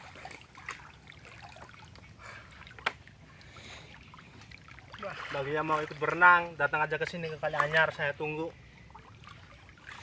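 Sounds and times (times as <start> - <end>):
river water lapping: 0.0 - 10.0.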